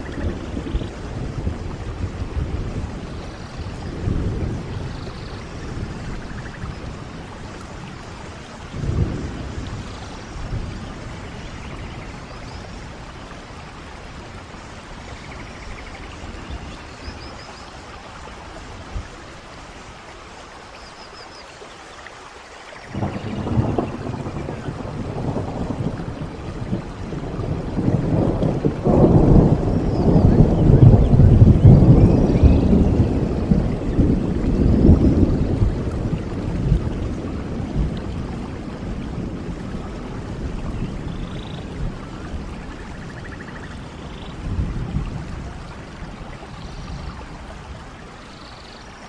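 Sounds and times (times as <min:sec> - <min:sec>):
rolling thunder: 0:00.0 - 0:17.5, 0:22.9 - 0:48.2
steady rainfall: 0:00.0 - 0:49.0.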